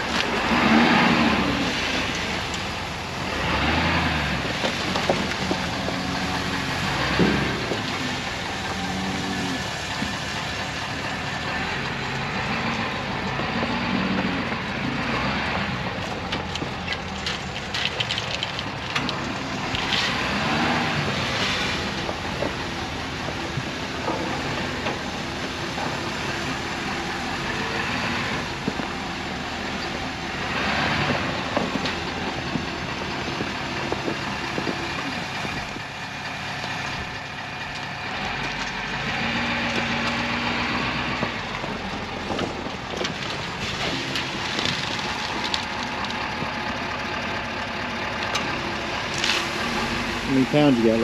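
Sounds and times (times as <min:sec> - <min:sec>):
pickup truck engine running: 0:00.0 - 0:51.0.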